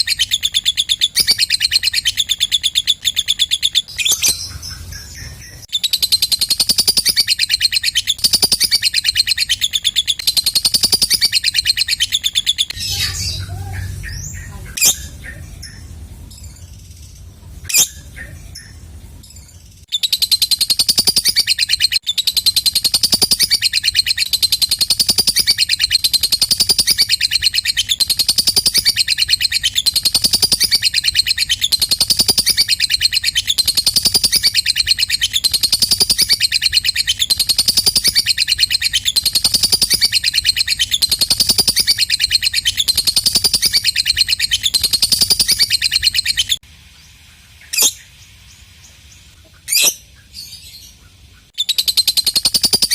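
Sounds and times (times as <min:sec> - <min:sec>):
lovebird chatter trill: 0:00.0 - 0:46.6, 0:49.6 - 0:52.9.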